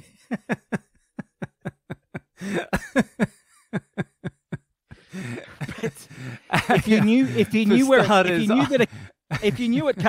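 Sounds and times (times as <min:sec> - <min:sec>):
man laughing: 0:00.2 - 0:10.0.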